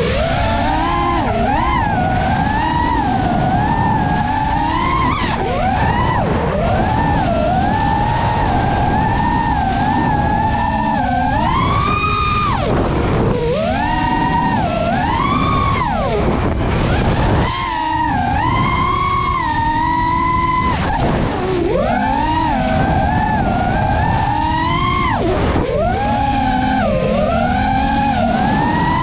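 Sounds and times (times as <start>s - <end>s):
drone motors whining: 0.0s - 29.0s
rush of wind: 0.0s - 29.0s.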